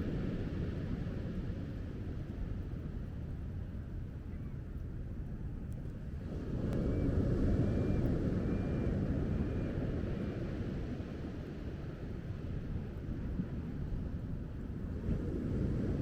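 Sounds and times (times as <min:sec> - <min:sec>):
low rumbling wind: 0:00.0 - 0:16.0.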